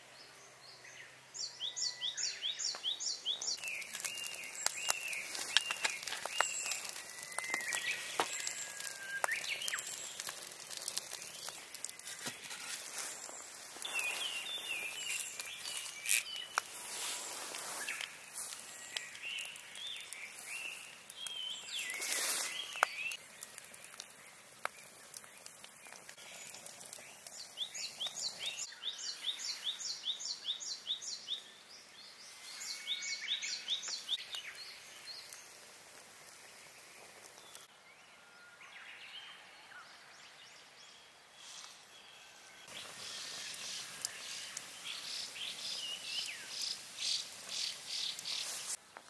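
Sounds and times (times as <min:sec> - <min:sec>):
birds singing: 0:00.2 - 0:35.6, 0:36.5 - 0:48.8.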